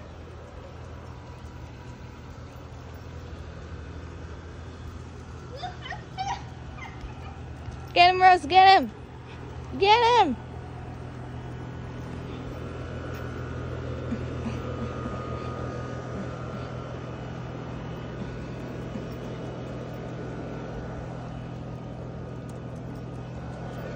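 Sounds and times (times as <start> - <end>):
electric machinery humming: 0.0 - 23.9.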